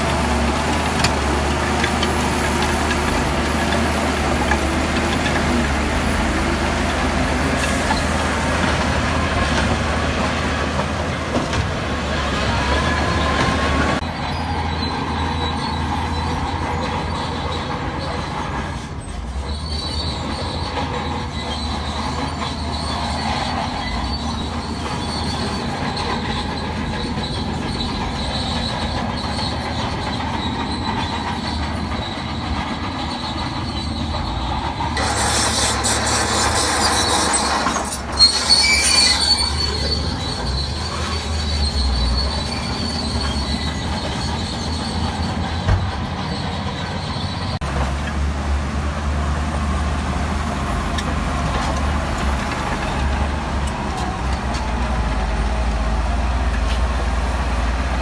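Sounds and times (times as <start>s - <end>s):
diesel engine running: 0.0s - 58.0s
steel tracks squealing and clanking: 0.0s - 58.0s.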